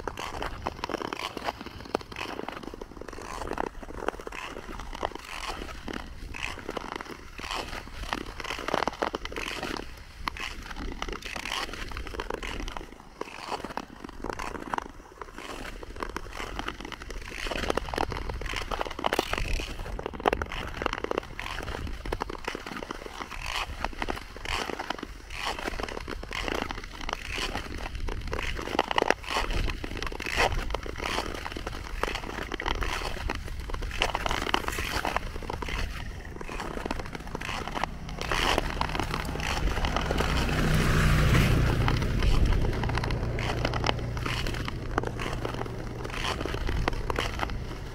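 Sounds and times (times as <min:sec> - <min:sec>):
ice skates scraping ice: 0:00.0 - 0:47.9.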